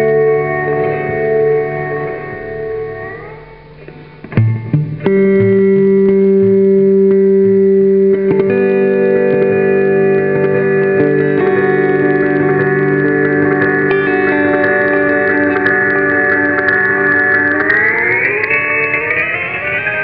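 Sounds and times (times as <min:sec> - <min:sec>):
electric guitar with delay: 0:00.0 - 0:20.0.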